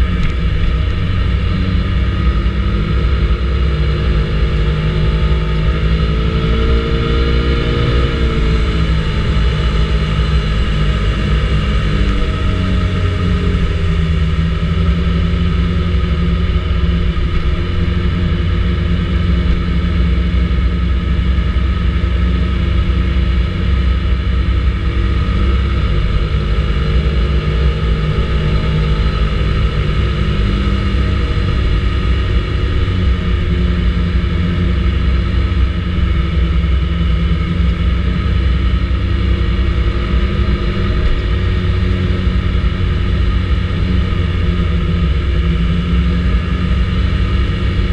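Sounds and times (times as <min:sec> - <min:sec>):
scooter engine running: 0:00.0 - 0:47.9.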